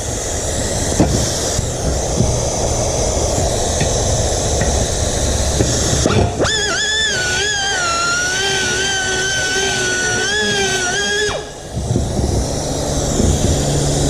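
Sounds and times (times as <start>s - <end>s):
air-powered beveling tool running: 0.0s - 14.0s
wavering pitched tone: 0.6s - 14.0s.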